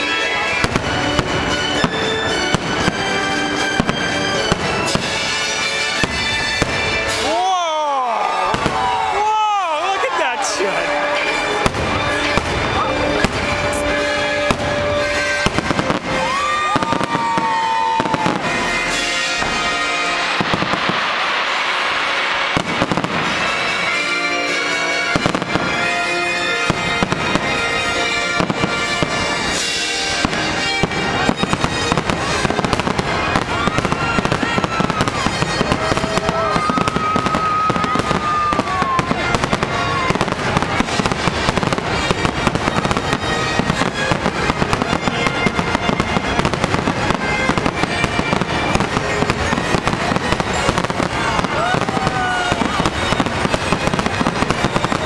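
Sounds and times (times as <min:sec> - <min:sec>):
fireworks booming and crackling: 0:00.0 - 0:07.6, 0:08.2 - 0:55.0
show music: 0:00.0 - 0:55.0.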